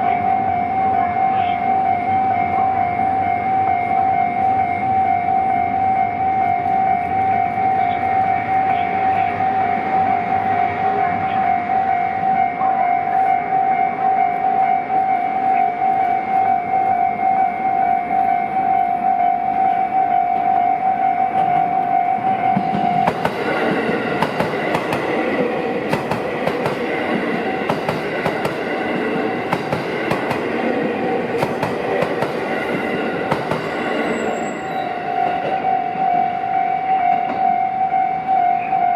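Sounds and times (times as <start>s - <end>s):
electric train passing: 0.0s - 38.9s
level crossing warning bell: 0.0s - 38.9s.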